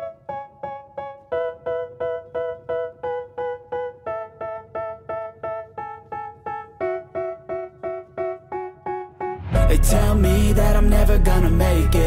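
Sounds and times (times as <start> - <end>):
keyboard chords: 0.0 - 12.0.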